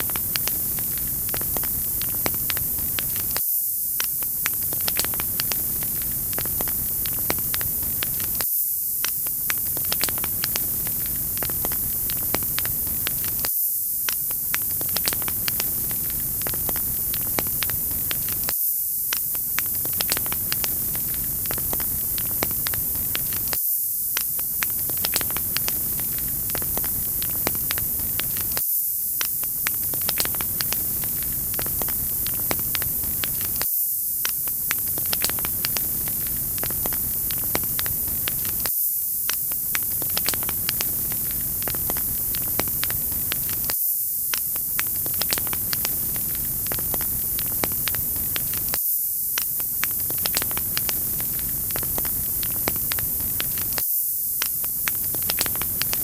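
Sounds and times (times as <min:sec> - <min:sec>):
wood fire crackling and popping: 0:00.0 - 0:03.4, 0:04.0 - 0:53.8, 0:54.4 - 0:56.0.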